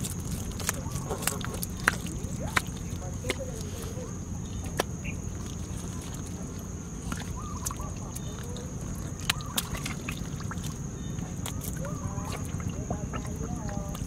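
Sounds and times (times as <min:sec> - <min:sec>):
fish splashing in shallow water: 0:00.0 - 0:14.0.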